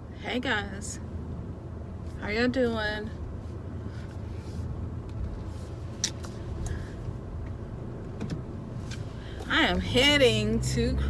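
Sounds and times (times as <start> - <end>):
car engine rumble from inside: 0.0 - 11.0.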